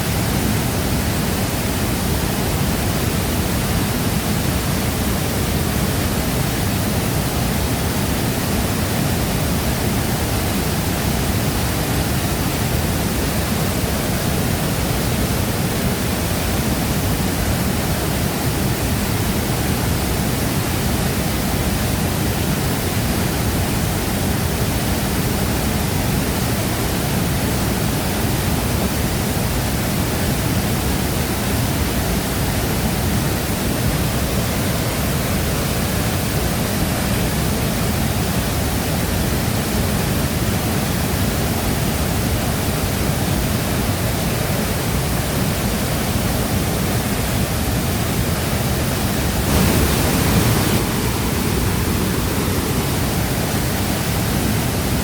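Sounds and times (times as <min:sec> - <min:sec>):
waterfall crashing: 0:00.0 - 0:55.0.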